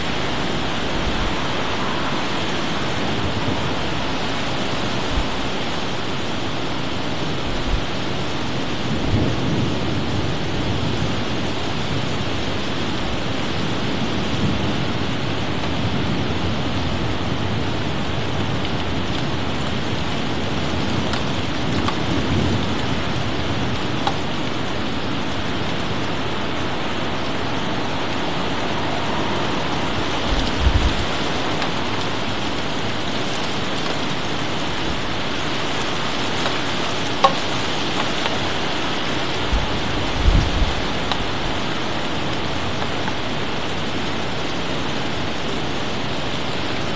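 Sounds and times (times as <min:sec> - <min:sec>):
thunder rumbling: 0:00.0 - 0:06.3, 0:08.7 - 0:43.7
heavy rain: 0:00.0 - 0:46.9.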